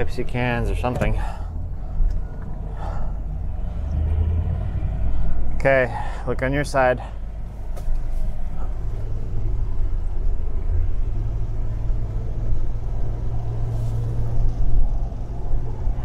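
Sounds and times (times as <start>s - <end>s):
car engine drone: 0.0s - 16.0s
wet road noise: 0.6s - 16.0s.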